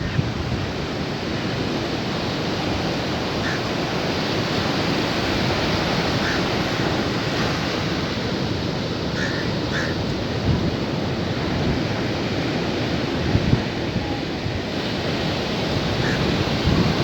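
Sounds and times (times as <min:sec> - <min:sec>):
sea surf breaking on beach: 0:00.0 - 0:17.0.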